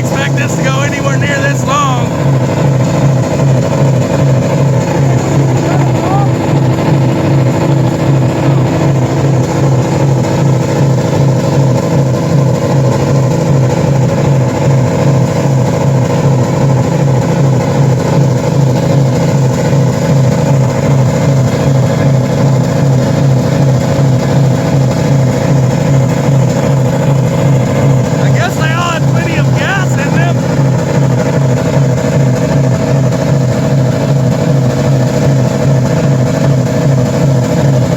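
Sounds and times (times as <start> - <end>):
car engines revving high: 0.0 - 37.9.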